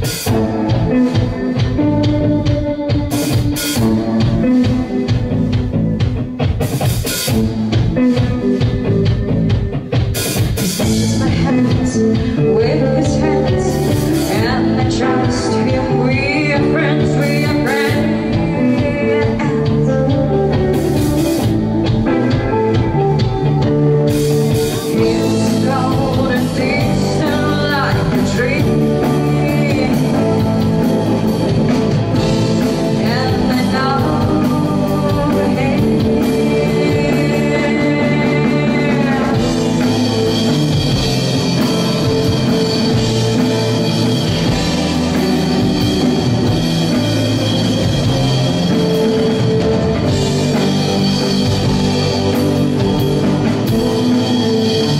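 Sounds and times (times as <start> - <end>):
bending lead guitar line: 0.0 - 54.9
live rock band playing: 0.0 - 54.9.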